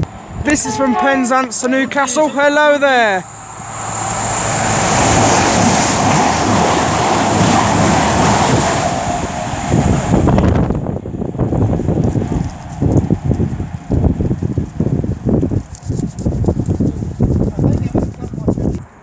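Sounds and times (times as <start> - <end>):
diesel trains passing at speed: 0.0 - 17.4
wind buffeting microphone: 0.0 - 19.0.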